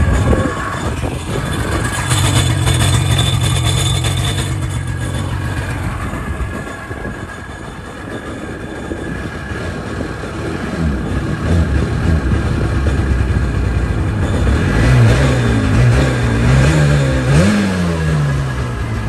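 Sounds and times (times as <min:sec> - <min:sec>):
jet ski engine running: 0:00.0 - 0:16.7.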